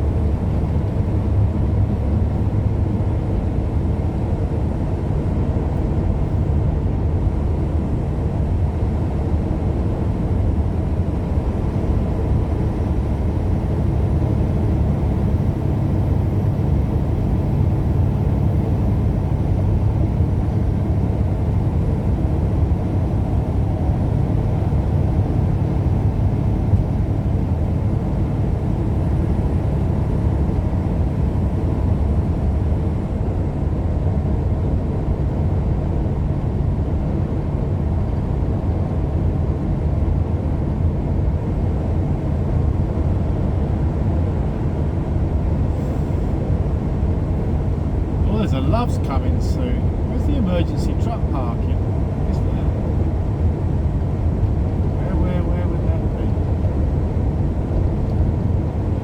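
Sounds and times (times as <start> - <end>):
truck engine and road drone: 0.0 - 59.0.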